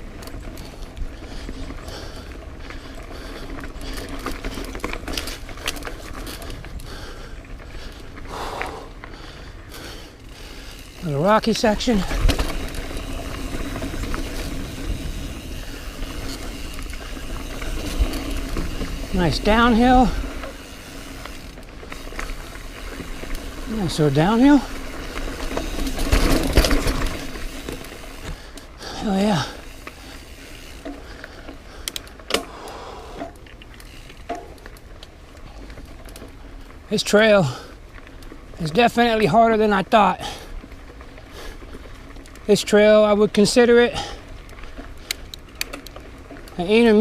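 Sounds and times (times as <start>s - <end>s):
bike rattling: 0.0s - 47.0s
bike tyres crunching over rock: 0.0s - 47.0s
wind: 0.0s - 47.0s.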